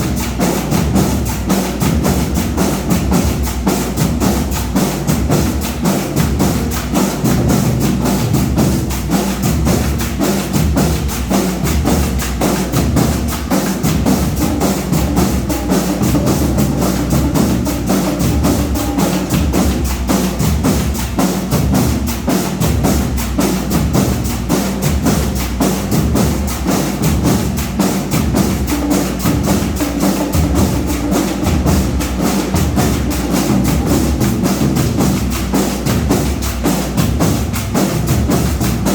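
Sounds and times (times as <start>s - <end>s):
drums beating fast rhythm: 0.0s - 38.9s
marching band playing: 0.0s - 38.9s.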